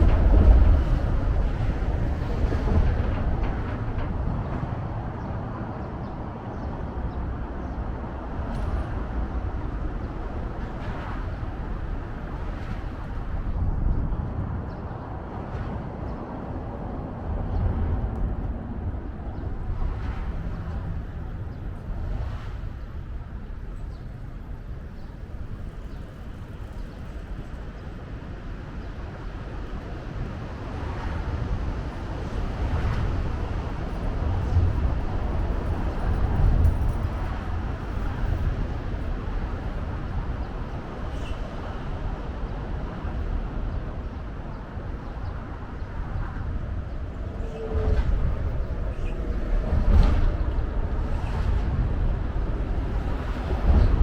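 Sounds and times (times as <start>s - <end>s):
low city rumble: 0.0s - 54.0s.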